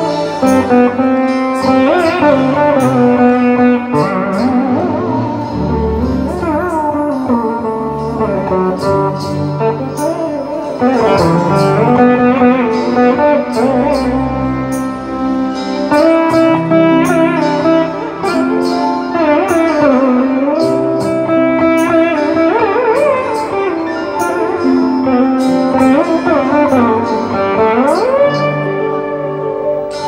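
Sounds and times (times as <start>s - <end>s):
held drone: 0.0s - 27.6s
plucked string melody: 0.0s - 30.0s.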